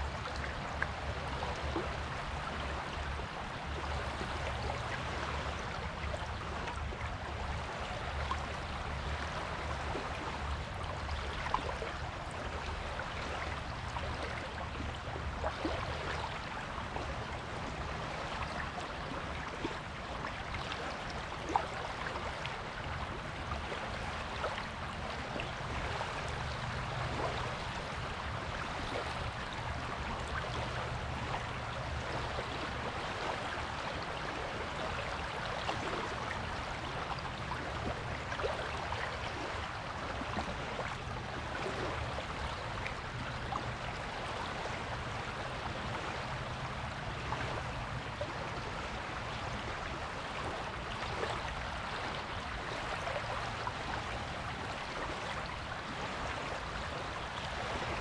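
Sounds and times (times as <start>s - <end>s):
surf washing on a beach: 0.0s - 58.0s.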